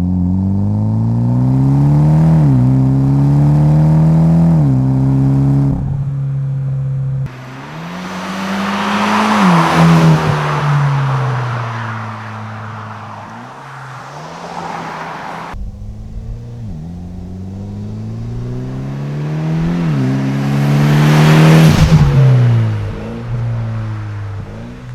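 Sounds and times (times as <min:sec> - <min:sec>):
car engine accelerating hard: 0:00.0 - 0:06.1, 0:07.2 - 0:24.9.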